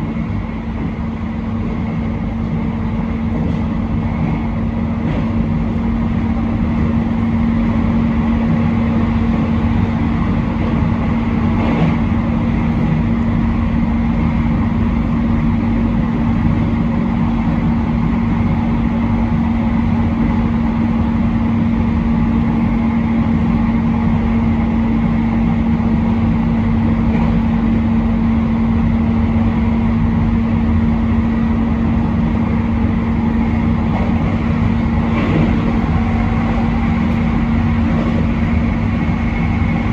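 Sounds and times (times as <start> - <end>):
constant low hum: 0.0 - 39.9
train rumbling: 0.0 - 39.9.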